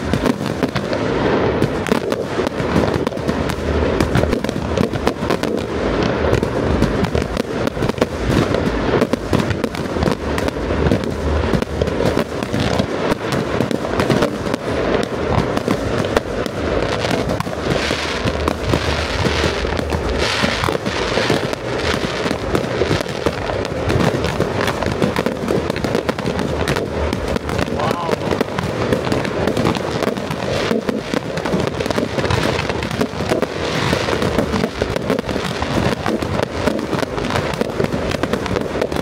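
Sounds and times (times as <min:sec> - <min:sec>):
fireworks bursts and bangs: 0:00.0 - 0:39.0
fireworks crackle: 0:00.0 - 0:39.0.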